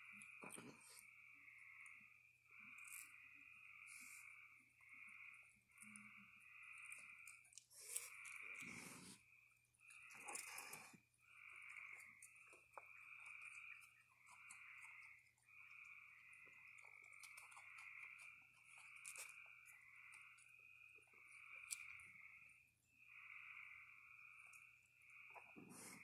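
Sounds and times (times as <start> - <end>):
animals chewing crunchy food: 0.0 - 1.9, 2.5 - 22.5
frogs trilling: 0.0 - 26.0.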